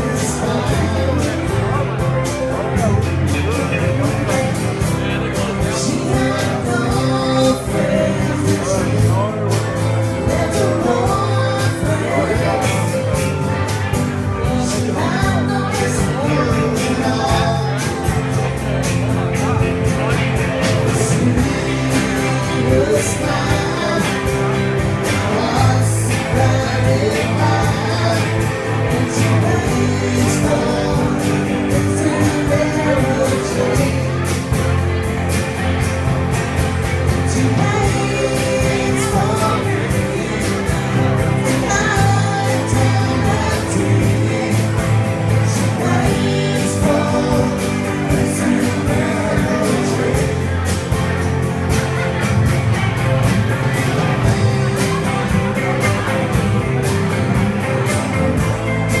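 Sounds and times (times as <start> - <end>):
rock singing: 0.0 - 59.0
steady drum beat: 0.0 - 59.0.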